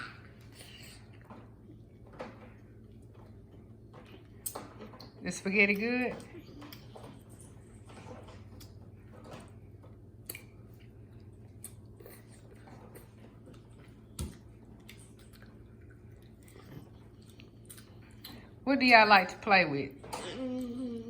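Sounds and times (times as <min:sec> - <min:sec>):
people chewing food: 0:00.0 - 0:18.6, 0:20.0 - 0:21.0
faint steady hum: 0:00.0 - 0:21.0.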